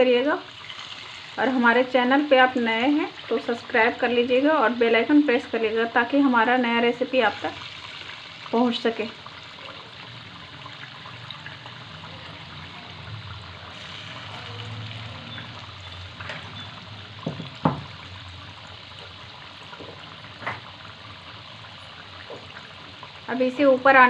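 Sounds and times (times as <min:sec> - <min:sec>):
fritters sizzling in hot oil: 0:00.0 - 0:24.0.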